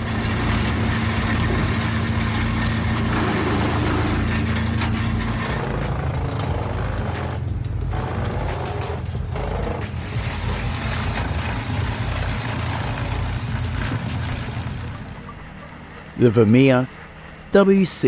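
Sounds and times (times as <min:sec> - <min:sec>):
wood chipper engine humming: 0:00.0 - 0:17.6.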